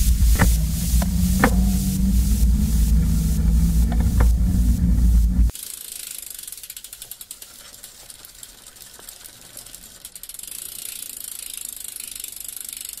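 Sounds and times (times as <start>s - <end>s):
bicycle freewheel hub ticking: 0.0s - 13.0s.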